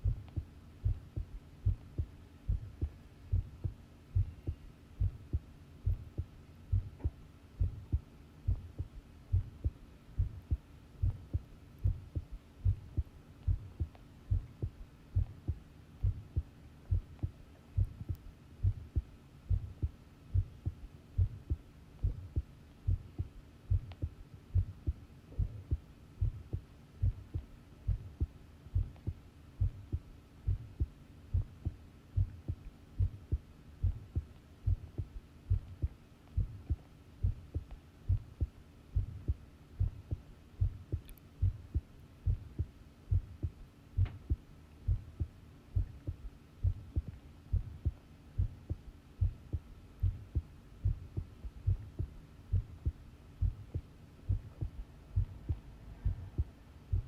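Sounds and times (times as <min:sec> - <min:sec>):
faint steady hum: 0:00.0 - 0:57.0
heartbeat thumps: 0:00.0 - 0:57.0.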